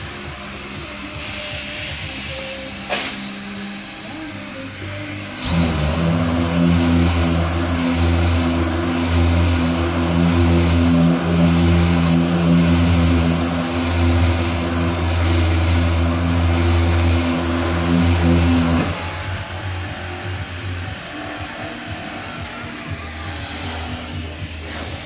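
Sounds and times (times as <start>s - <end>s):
machine motor humming: 0.0s - 25.0s.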